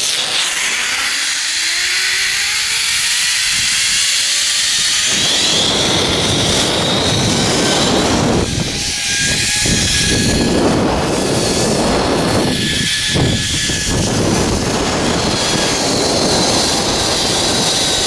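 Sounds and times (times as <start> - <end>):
zipline pulleys whining on cable: 0.0 - 18.0
wind rushing over microphone: 2.2 - 18.0.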